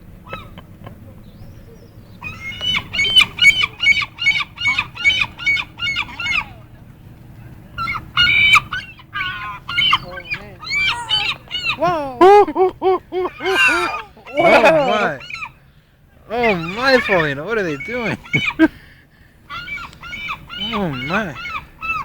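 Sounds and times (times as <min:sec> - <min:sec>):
gulls calling: 0:00.0 - 0:22.0.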